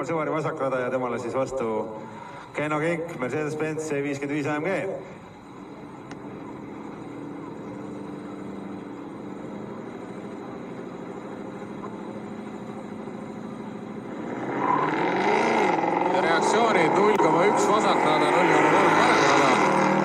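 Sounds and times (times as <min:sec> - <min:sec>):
car engines idling: 0:00.0 - 0:20.0
car engines revving: 0:00.0 - 0:20.0.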